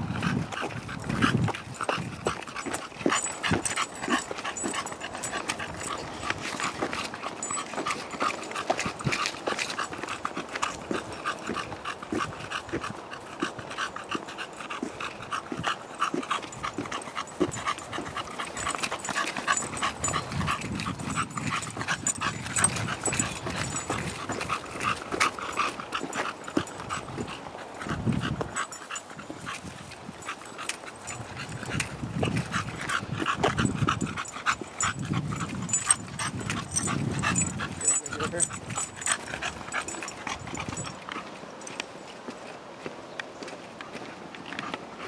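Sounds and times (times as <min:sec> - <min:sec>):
dog panting: 0:00.0 - 0:42.4.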